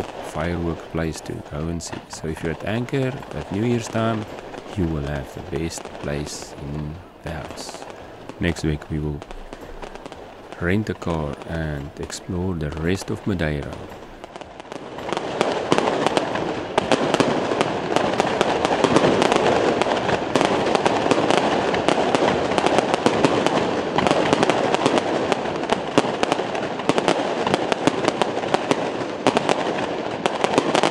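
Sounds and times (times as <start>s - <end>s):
fireworks crackling and banging: 0.0s - 30.9s.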